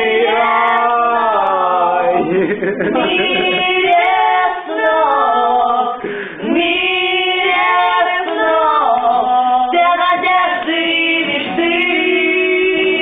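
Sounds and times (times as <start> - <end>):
group singing a lullaby: 0.0 - 13.0.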